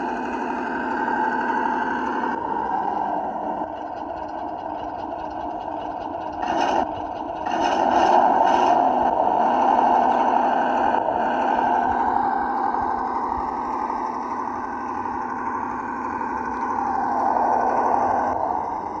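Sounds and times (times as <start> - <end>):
toy truck motor drone: 0.0 - 19.0.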